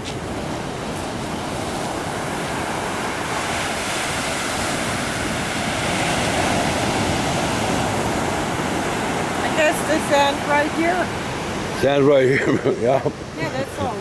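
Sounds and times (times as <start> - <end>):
ocean surf washing on beach: 0.0 - 14.0.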